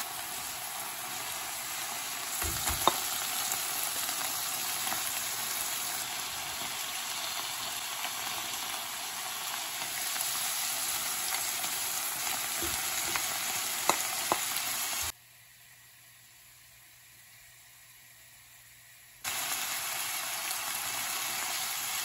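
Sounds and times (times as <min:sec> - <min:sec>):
food sizzling in wok: 0:00.0 - 0:22.0.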